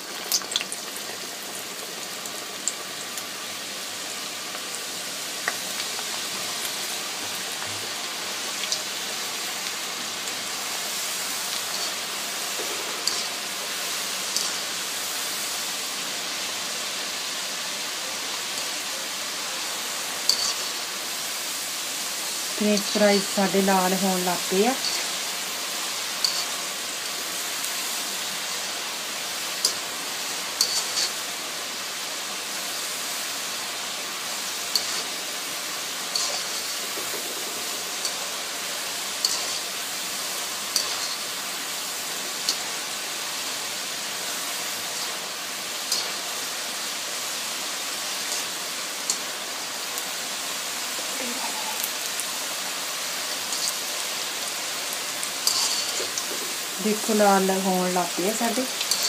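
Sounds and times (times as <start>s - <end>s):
fries sizzling in hot oil: 0.0s - 59.0s.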